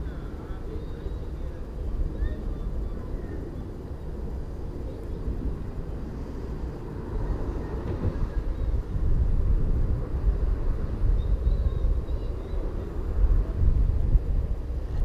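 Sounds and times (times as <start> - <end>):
low fluttering outdoor rumble: 0.0 - 15.0.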